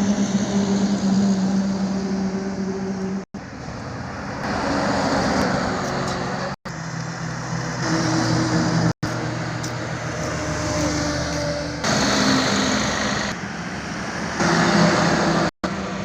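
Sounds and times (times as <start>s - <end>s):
highway traffic passing: 0.0s - 16.0s.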